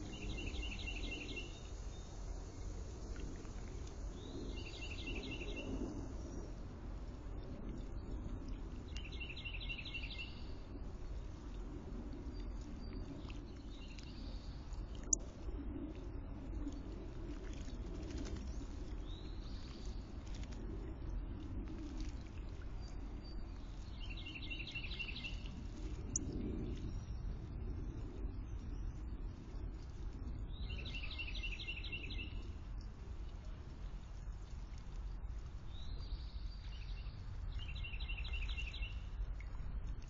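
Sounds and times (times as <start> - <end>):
low outdoor background: 0.0 - 40.0.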